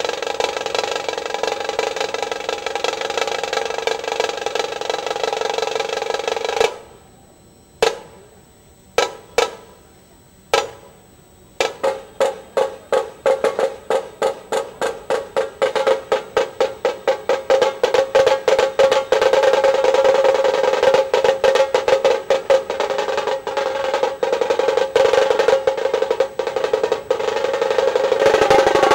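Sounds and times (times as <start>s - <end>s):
drum roll: 0.0s - 6.9s, 11.6s - 28.9s
drum strokes: 0.0s - 7.0s, 7.8s - 8.2s, 9.0s - 9.7s, 10.5s - 10.9s, 11.6s - 28.9s.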